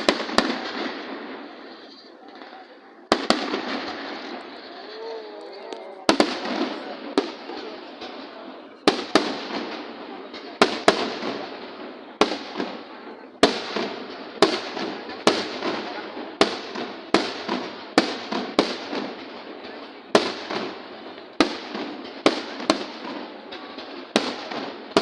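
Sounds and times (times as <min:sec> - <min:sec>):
firework bangs with crackle: 0:00.0 - 0:05.1, 0:05.8 - 0:25.0.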